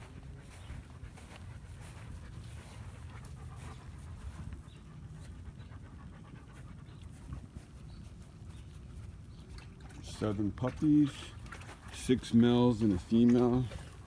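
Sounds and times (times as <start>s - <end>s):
dog panting: 0.0s - 9.7s, 10.7s - 14.0s.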